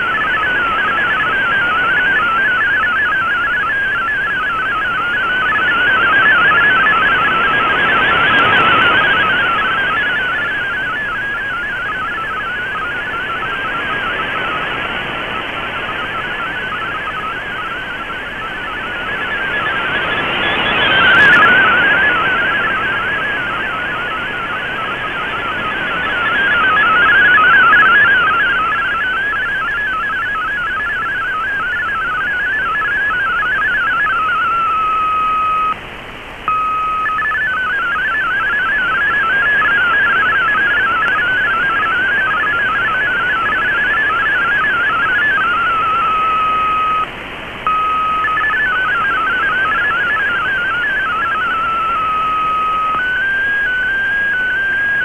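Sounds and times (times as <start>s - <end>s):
steady single tone: 0.0s - 35.8s, 36.4s - 55.0s
warbling digital data tones: 0.0s - 35.8s, 36.5s - 55.0s.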